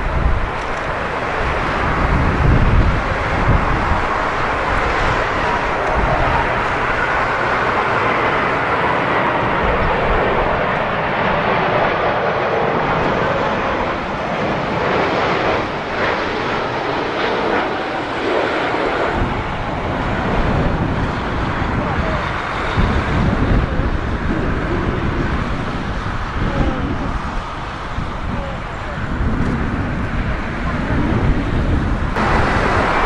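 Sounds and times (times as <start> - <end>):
jet engines rumbling: 0.0 - 33.0
wind buffeting microphone: 0.0 - 33.0.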